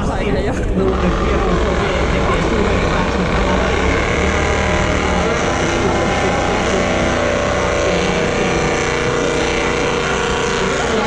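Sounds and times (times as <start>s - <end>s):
crowd murmur: 0.0s - 11.0s
rally car engine running hard: 0.0s - 11.0s.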